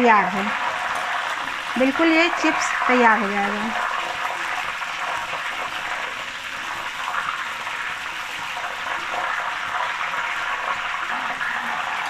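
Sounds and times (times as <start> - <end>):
slices deep-frying in hot oil: 0.0 - 12.0.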